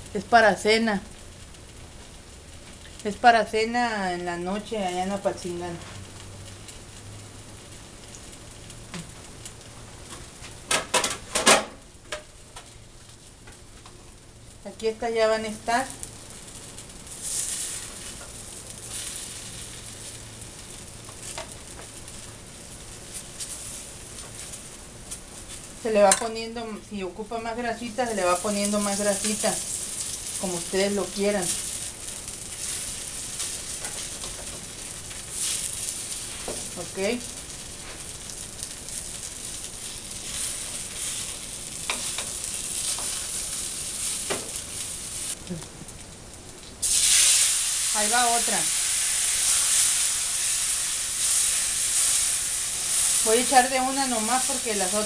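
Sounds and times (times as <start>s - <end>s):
tortillas sizzling in oil: 0.0s - 55.0s.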